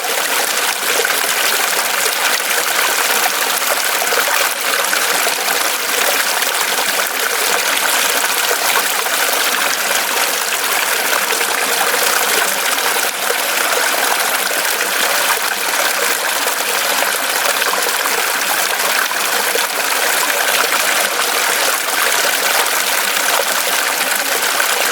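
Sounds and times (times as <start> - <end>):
stream running over rocks: 0.0 - 24.9.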